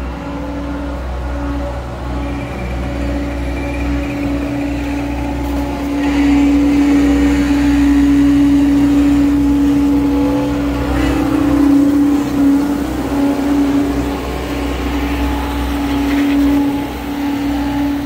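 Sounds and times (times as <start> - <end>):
steady machine whine: 0.0 - 18.0
track loader engine drone: 0.0 - 18.0.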